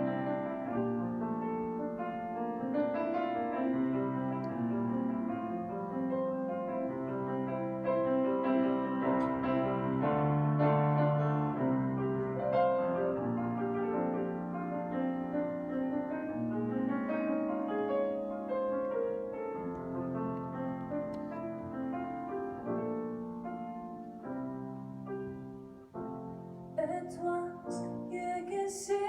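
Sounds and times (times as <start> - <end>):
grand piano playing: 0.0 - 29.0.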